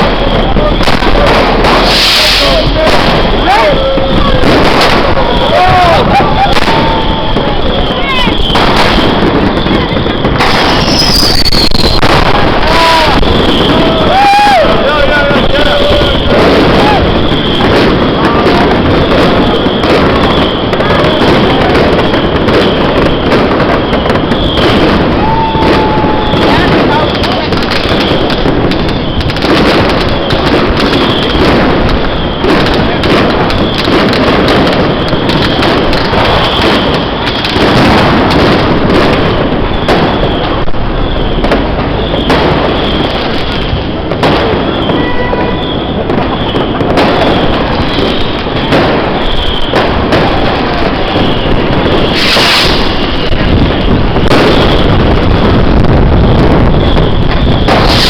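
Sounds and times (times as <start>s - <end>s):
fireworks and firecrackers banging: 0.0s - 58.0s.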